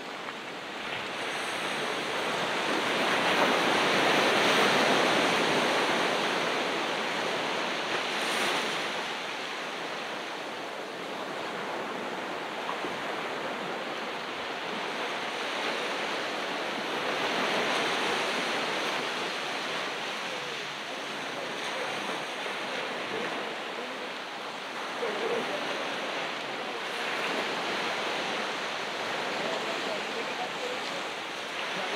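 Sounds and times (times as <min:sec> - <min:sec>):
waves breaking on beach: 0:00.0 - 0:31.9.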